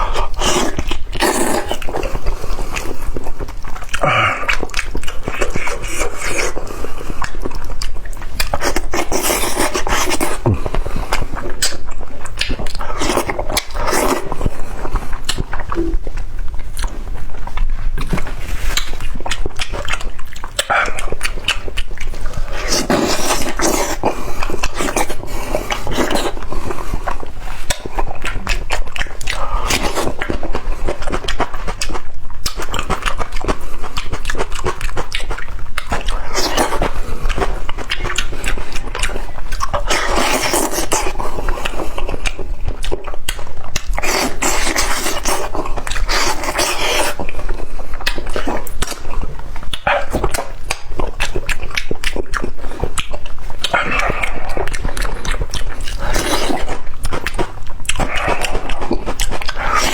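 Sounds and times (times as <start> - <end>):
lip-smacking and sucking: 0.0 - 59.9
wet chewing: 0.0 - 59.9.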